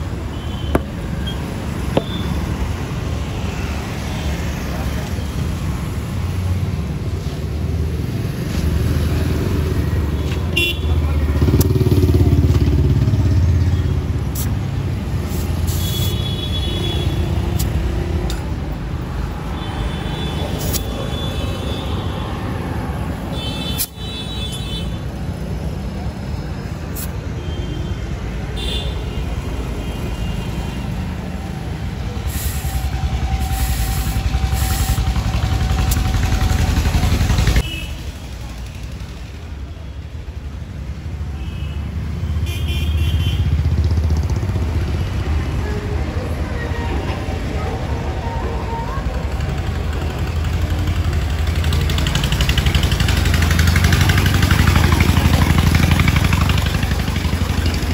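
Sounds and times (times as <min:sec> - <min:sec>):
vehicle rumble in traffic: 0:00.0 - 0:57.9.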